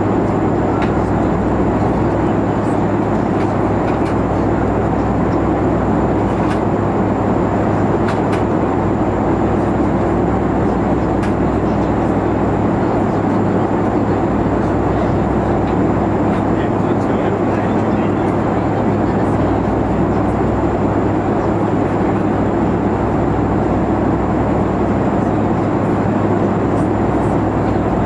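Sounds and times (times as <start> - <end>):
airflow rush in cabin: 0.0 - 28.0
jet engine drone: 0.0 - 28.0.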